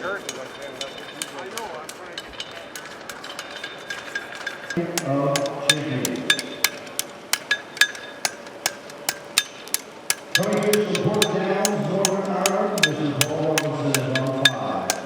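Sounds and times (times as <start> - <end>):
hammers striking anvils: 0.0 - 15.0.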